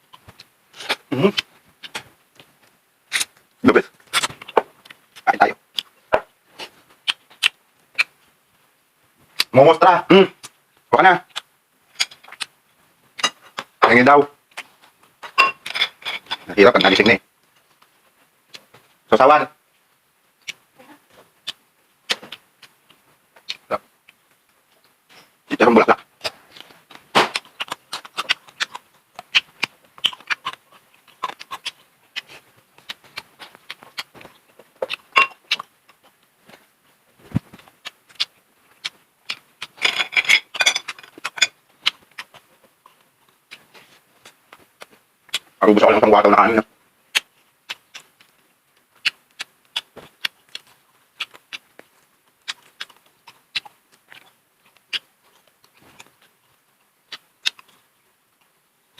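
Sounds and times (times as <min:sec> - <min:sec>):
crunchy chewing: 0:00.1 - 0:08.3, 0:11.2 - 0:13.7, 0:20.4 - 0:45.8, 0:47.1 - 0:58.6.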